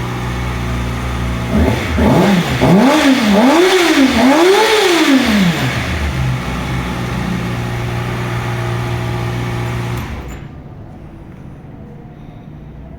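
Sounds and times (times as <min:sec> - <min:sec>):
motorcycle engine revving and idling: 0:00.0 - 0:10.7.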